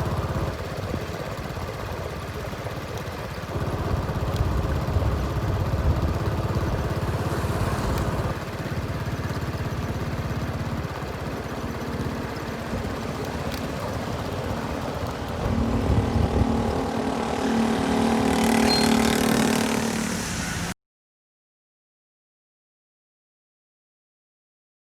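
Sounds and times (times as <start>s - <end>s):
diesel engines running: 0.0s - 20.8s
higher engine note: 0.0s - 20.8s.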